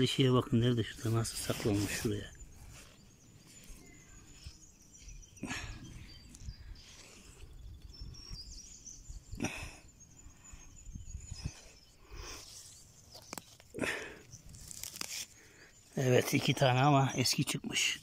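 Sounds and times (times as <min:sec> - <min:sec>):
rustling of dry undergrowth: 0:00.0 - 0:09.6, 0:10.2 - 0:17.9
faint high birdsong: 0:00.0 - 0:18.0.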